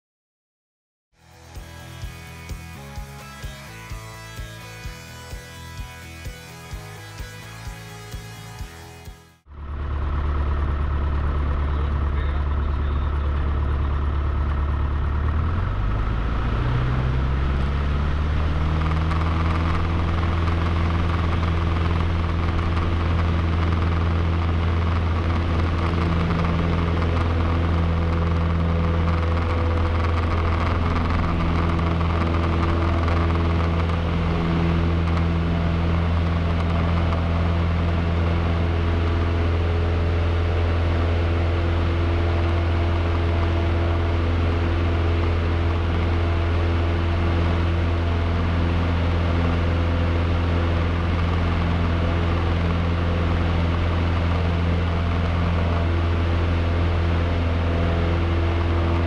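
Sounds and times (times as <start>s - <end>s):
light aircraft engine: 1.2s - 59.0s.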